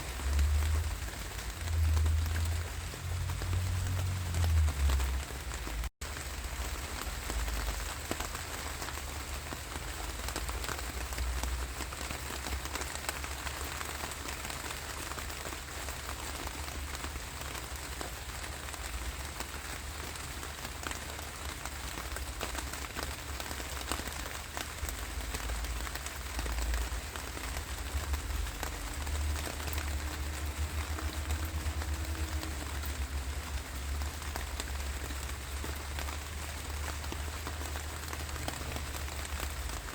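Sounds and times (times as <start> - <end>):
rain drops ticking on a surface: 0.0 - 39.9.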